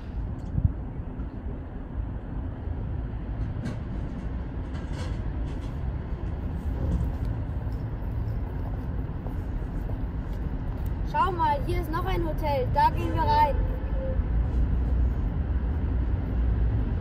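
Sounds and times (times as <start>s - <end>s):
low rumble of city noise: 0.0s - 17.0s.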